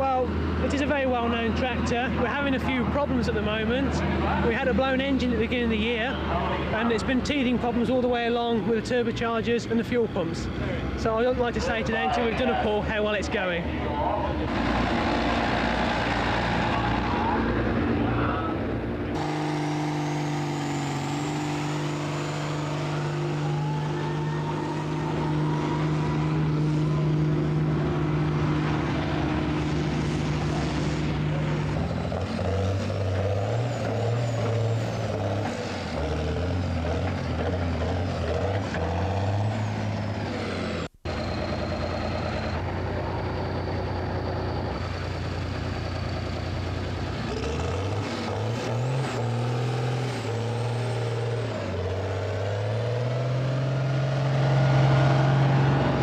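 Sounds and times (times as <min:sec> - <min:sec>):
tractor engine revving: 0:00.0 - 0:56.0.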